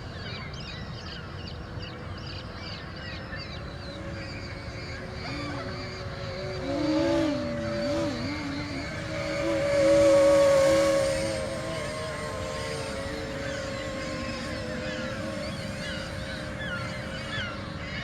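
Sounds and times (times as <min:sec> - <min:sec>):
model aircraft motors whining: 0:00.4 - 0:18.0.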